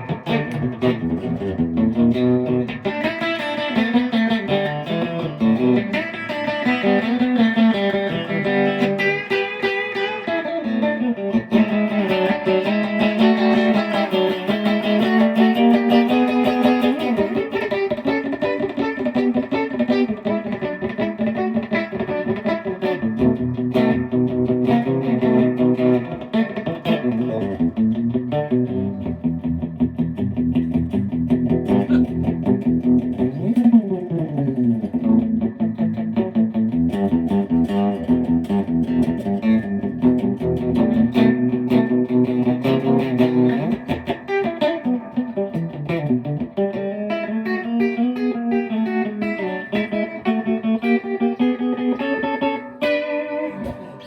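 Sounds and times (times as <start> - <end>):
electric guitar notes and chords: 0.0 - 54.0.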